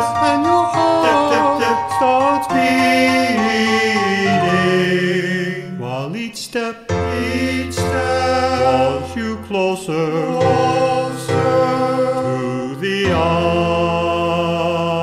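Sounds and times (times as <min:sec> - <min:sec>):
man singing close harmony: 0:00.2 - 0:15.0.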